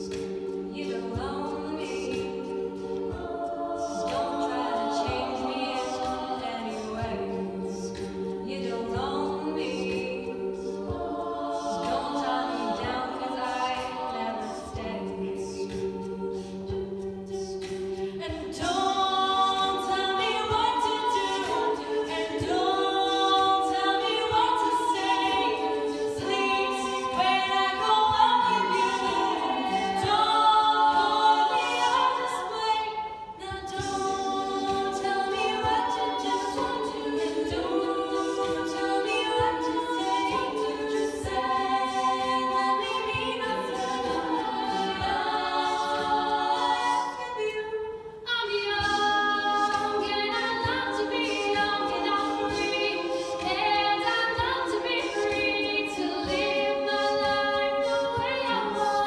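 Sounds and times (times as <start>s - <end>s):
women singing in harmony: 0.0s - 59.0s.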